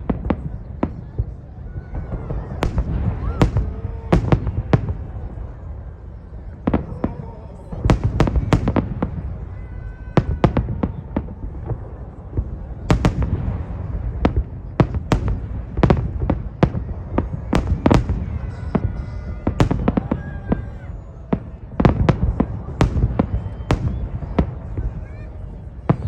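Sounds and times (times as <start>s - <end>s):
fireworks bursting with bangs: 0.0s - 26.0s.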